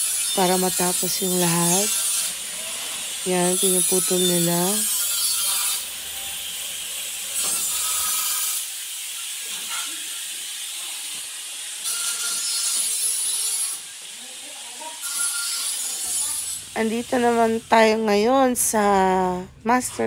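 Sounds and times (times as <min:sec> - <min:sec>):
angle grinder cutting steel: 0:00.0 - 0:18.1.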